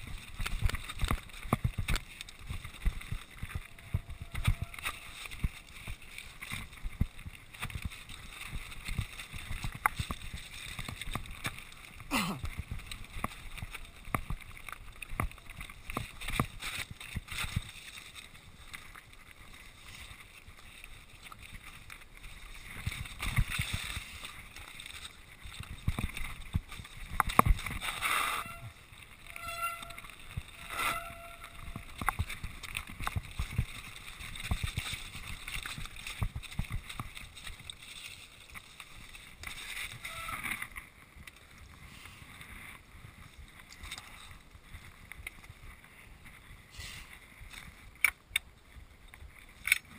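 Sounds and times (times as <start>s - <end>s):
bike rattling and knocking: 0.0s - 41.8s
tyres crunching on gravel: 0.0s - 49.9s.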